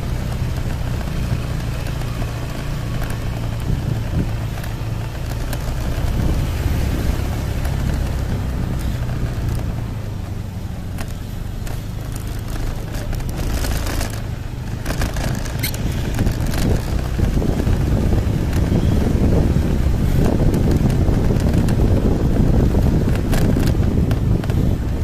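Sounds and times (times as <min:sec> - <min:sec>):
scooter engine humming: 0:00.0 - 0:25.0
wind buffeting on microphone: 0:00.0 - 0:25.0.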